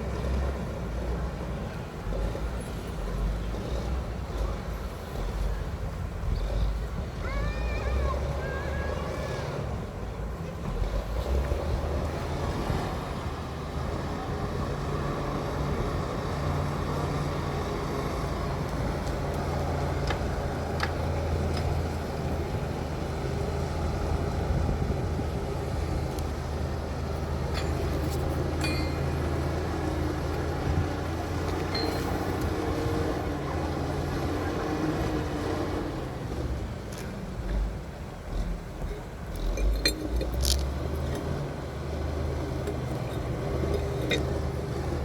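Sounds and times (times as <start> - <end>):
bulldozer diesel engine humming: 0.0 - 45.0.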